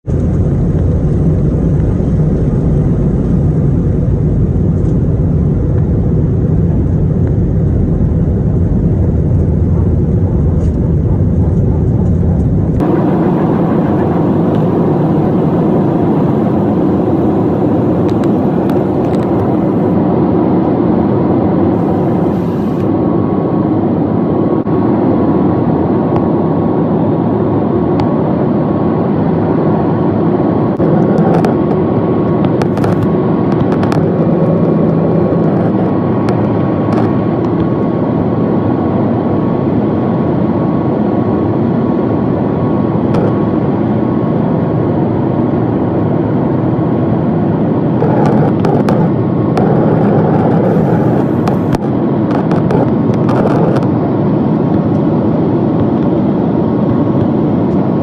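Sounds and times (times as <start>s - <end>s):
jet cabin engine and airflow roar: 0.0s - 58.0s
faint steady whine: 0.1s - 58.0s.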